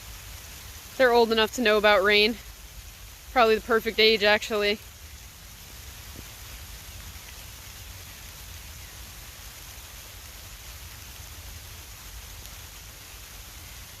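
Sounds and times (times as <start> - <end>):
rain falling on leaves: 0.0 - 14.0.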